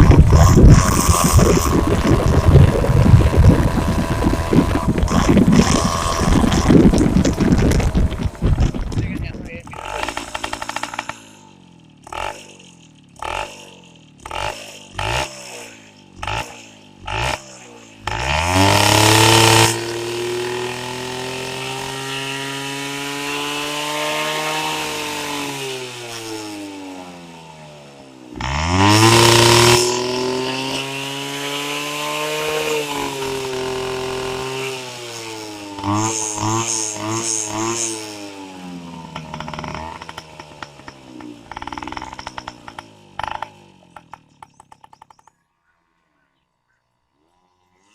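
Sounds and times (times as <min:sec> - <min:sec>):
two-stroke engine revving: 0:00.0 - 0:45.4, 0:46.6 - 0:47.9.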